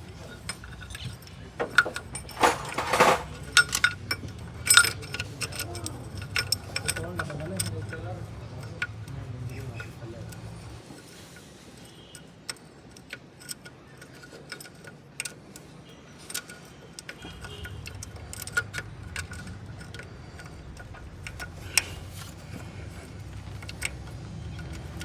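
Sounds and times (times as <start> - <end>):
metal tools clinking: 0.0 - 25.0.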